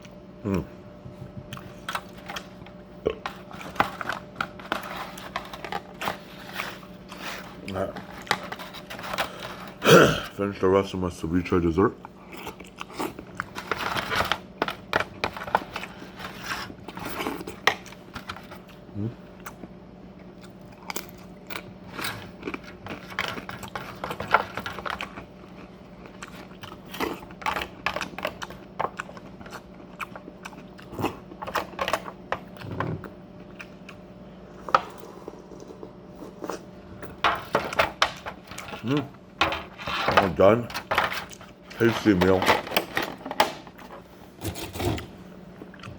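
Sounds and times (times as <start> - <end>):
chewing and crunching food: 0.0 - 10.4, 11.2 - 45.9
faint steady hum: 0.0 - 45.9.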